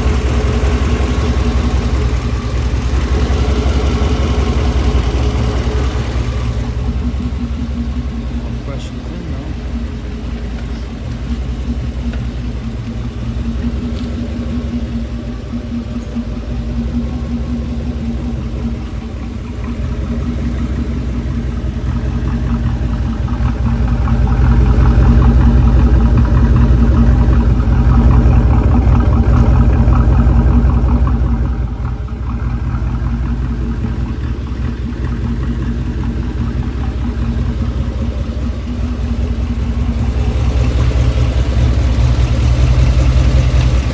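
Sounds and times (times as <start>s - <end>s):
fast steady engine clicking: 0.0s - 43.9s
truck engine running: 0.0s - 43.9s.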